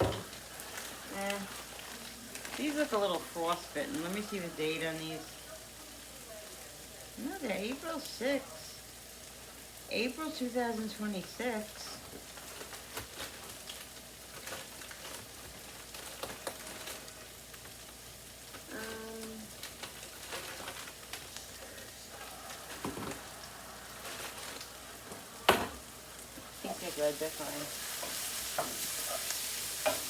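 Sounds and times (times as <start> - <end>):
vegetables sizzling in a pan: 0.0 - 30.0.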